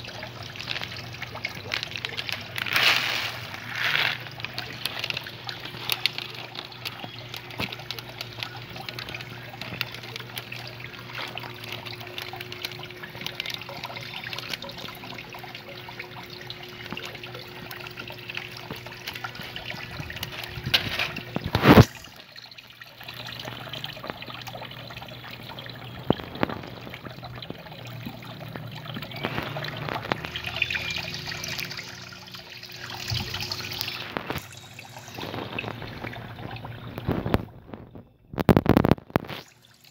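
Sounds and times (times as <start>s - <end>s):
low steady hum: 0.0s - 39.9s
water trickling: 0.0s - 39.9s.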